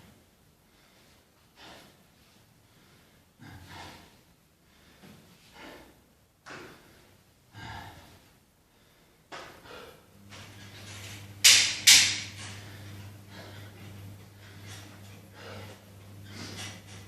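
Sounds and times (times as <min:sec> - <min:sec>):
low steady hum: 0:00.0 - 0:17.0
person breathing hard: 0:00.6 - 0:10.7, 0:12.1 - 0:17.0.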